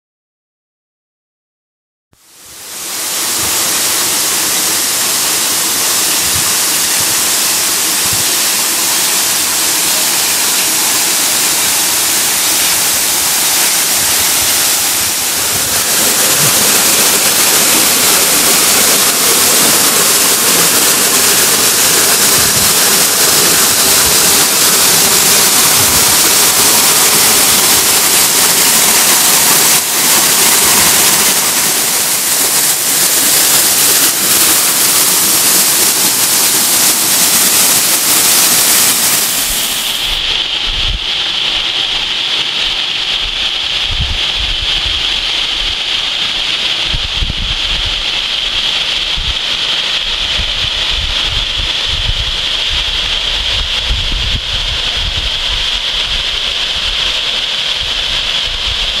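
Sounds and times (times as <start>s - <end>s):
waterfall rushing: 2.2s - 59.0s.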